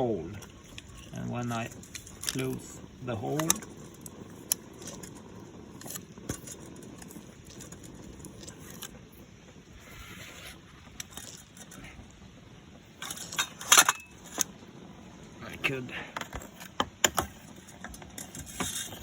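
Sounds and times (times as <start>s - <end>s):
small engine clicking and scratching: 0.3s - 12.3s, 12.9s - 14.6s, 16.1s - 19.0s.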